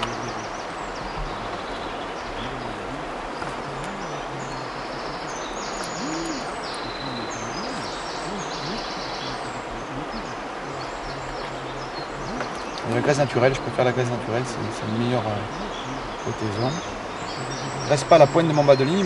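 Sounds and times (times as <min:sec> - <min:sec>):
bird calling: 0:00.0 - 0:19.0
river water rushing: 0:00.0 - 0:19.0.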